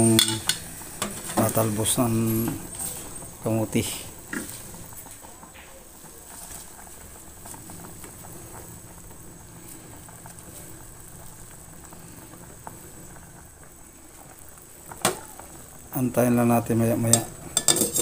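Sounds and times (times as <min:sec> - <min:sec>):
soup boiling with bubbles popping: 0:00.0 - 0:18.0.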